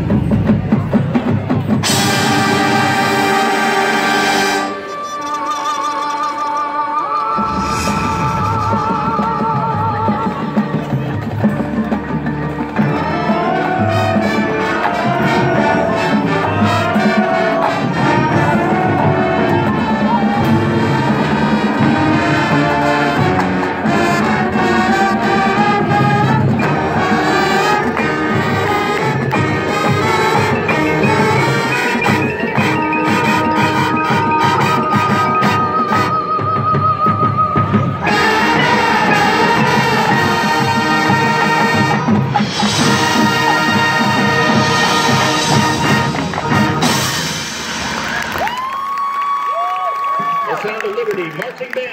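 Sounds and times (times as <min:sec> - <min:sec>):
marching band playing: 0:00.0 - 0:06.5, 0:07.1 - 0:51.9.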